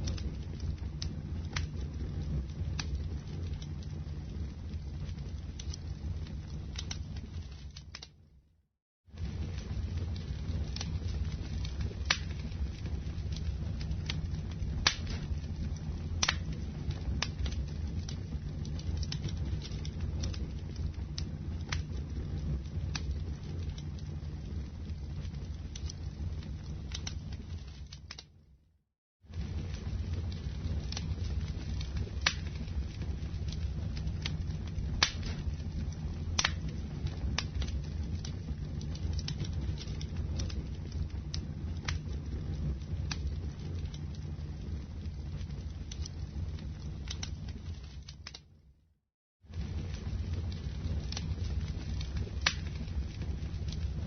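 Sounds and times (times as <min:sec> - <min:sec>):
fire crackling and popping: 0:00.0 - 0:08.4, 0:09.1 - 0:28.6, 0:29.3 - 0:48.8, 0:49.5 - 0:54.0
low rumble of flames: 0:00.0 - 0:54.0.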